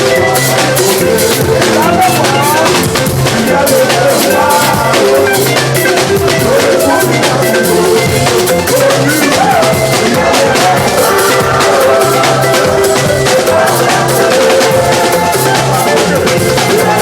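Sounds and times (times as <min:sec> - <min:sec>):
bass line: 0:00.0 - 0:17.0
choir singing: 0:00.0 - 0:17.0
drum kit beat: 0:00.0 - 0:17.0.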